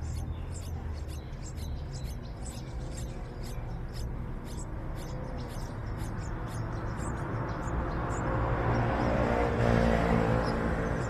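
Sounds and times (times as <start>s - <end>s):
low background rumble: 0.0s - 11.0s
nestlings cheeping: 0.0s - 11.0s.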